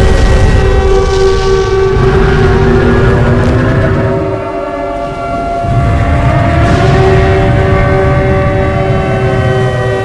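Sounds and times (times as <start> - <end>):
low rumble: 0.0 - 10.0
loud horn chord: 0.2 - 10.0.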